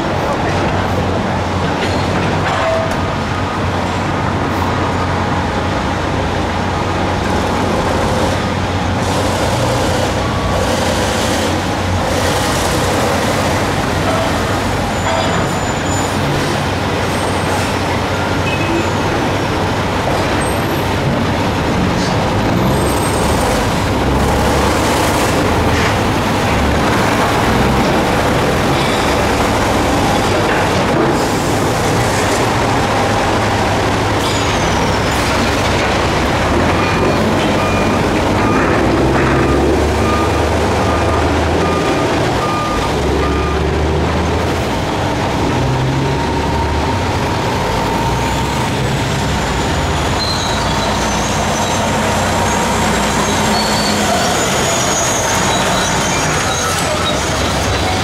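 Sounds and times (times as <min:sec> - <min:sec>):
diesel engine rumble: 0:03.0 - 0:58.0.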